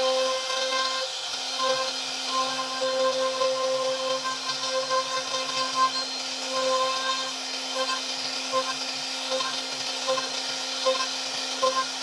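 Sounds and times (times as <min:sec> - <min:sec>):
bit cutting wood hiss: 0:00.0 - 0:12.0
router spindle whine: 0:00.0 - 0:12.0.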